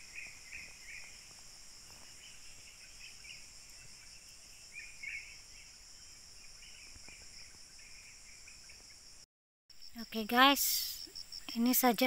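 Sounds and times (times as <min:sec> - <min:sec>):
high-pitched insect chorus: 0:00.0 - 0:12.0
insect chirps: 0:00.0 - 0:12.0.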